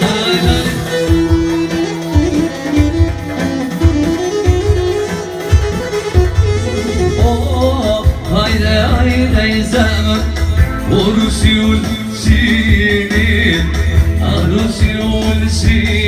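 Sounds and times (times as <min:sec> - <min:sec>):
live band playing folk dance music: 0:00.0 - 0:16.0.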